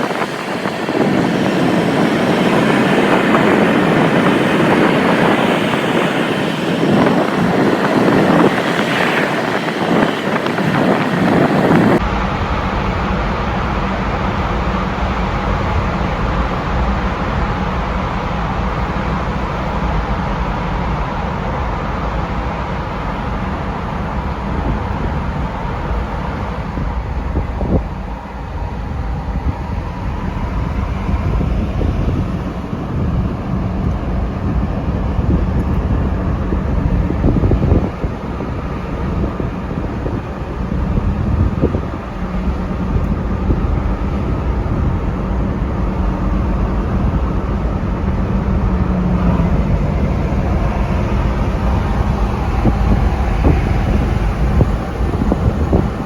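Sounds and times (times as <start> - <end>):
car road and engine rumble: 0.0 - 56.0
wind noise: 0.0 - 56.0.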